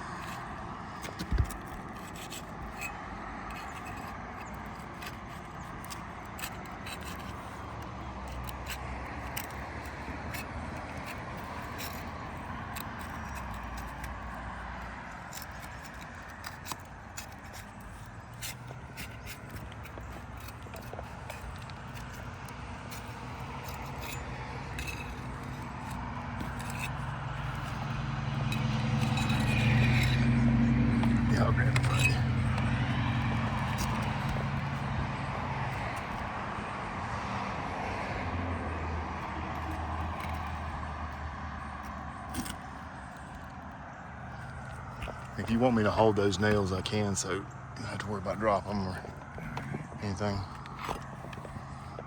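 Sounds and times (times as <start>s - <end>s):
shingles scraped loose by hand tools: 0.0s - 36.6s, 39.2s - 40.8s, 41.4s - 52.0s.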